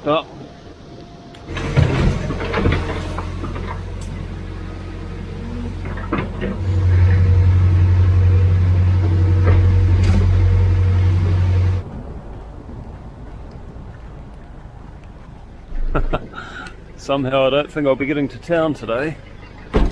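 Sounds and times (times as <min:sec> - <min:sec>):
low engine rumble: 0:00.0 - 0:19.9.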